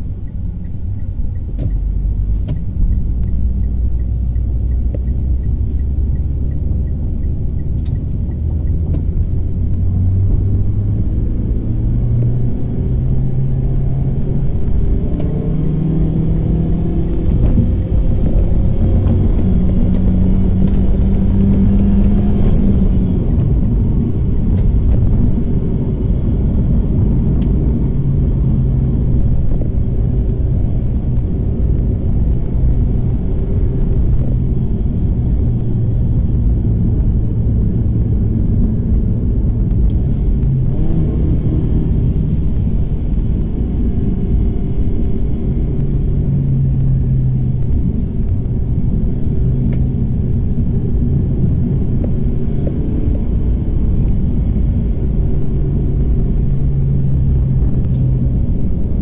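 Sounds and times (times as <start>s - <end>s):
car engine under load: 0.0s - 59.0s
road noise inside car cabin: 0.0s - 59.0s.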